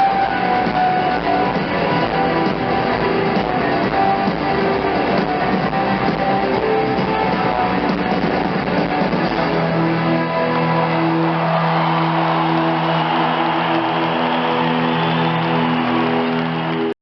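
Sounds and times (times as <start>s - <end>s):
live rock band music: 0.0s - 16.9s.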